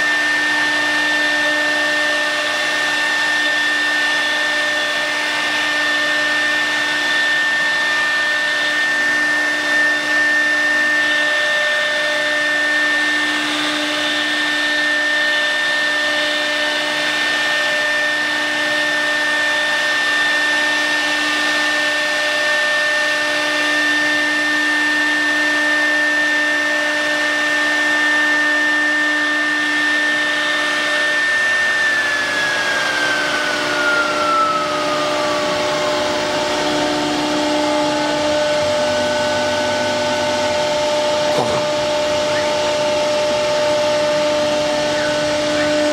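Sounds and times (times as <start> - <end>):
cnc router spindle whine: 0.0 - 45.9.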